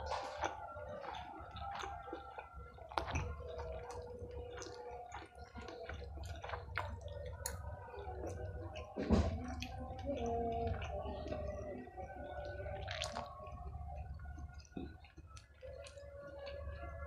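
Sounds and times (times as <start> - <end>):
wet chewing and lip smacks: 0.0 - 17.0.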